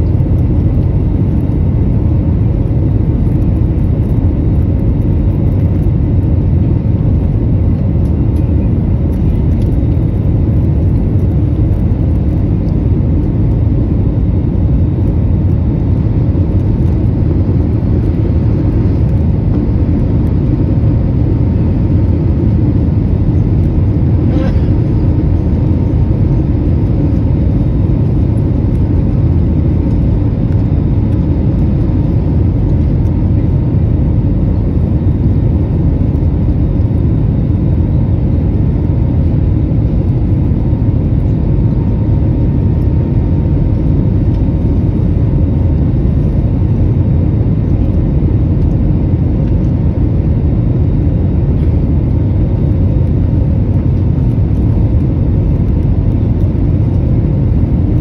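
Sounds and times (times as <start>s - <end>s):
airplane engine rumble in cabin: 0.0s - 58.0s
faint steady whine: 0.0s - 58.0s.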